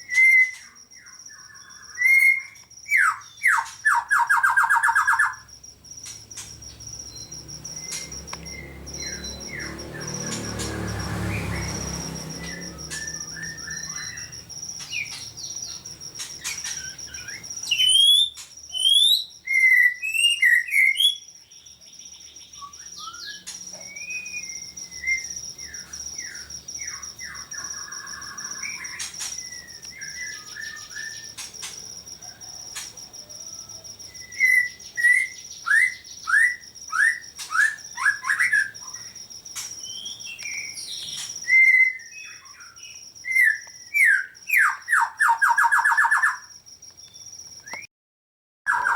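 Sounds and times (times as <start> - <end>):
high-pitched ringing tone: 0.0 - 47.9, 48.7 - 48.9
songbirds chirping and whistling: 0.0 - 47.9, 48.7 - 48.9.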